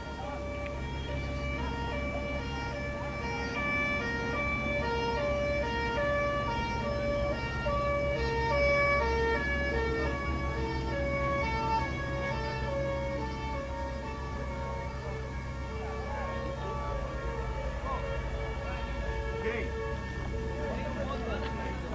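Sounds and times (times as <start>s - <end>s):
steady low rumble: 0.0s - 21.9s
two-tone emergency siren: 0.0s - 21.9s.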